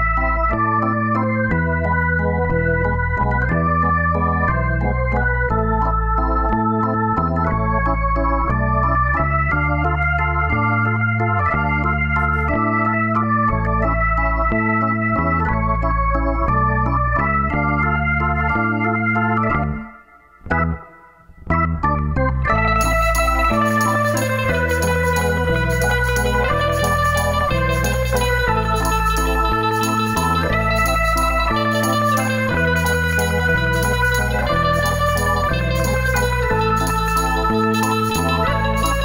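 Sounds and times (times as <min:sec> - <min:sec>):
moving bass line: 0:00.0 - 0:20.8, 0:21.4 - 0:39.0
electronic organ tune: 0:00.0 - 0:39.0.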